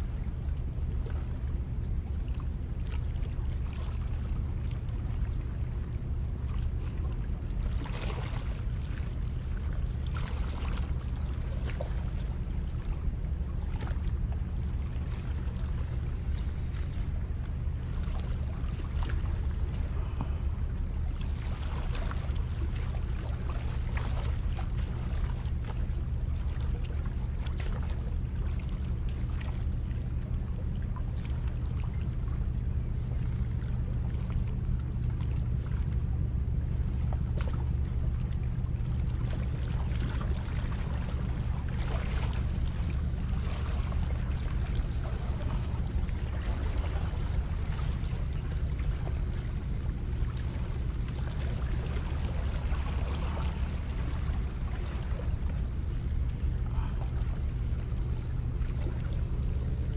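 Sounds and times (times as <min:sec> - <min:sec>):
sea water at shoreline: 0:00.0 - 0:59.9
wind: 0:00.0 - 0:59.9
small splashes: 0:02.1 - 0:32.4, 0:36.8 - 0:59.9.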